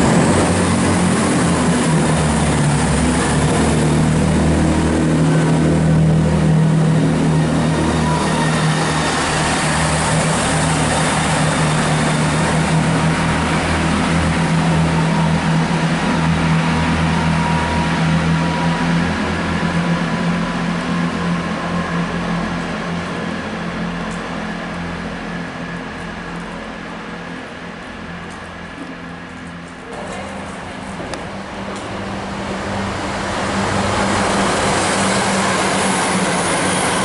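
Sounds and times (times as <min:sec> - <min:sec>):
diesel train engine drone: 0:00.0 - 0:37.0.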